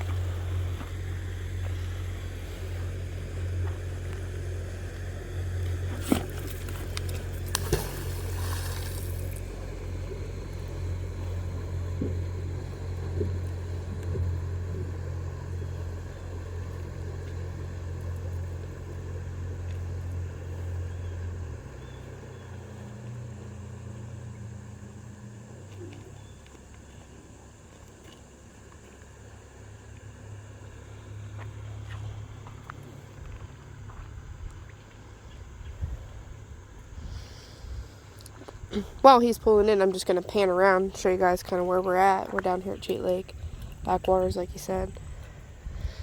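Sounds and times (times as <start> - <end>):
low engine drone: 0.0 - 46.0.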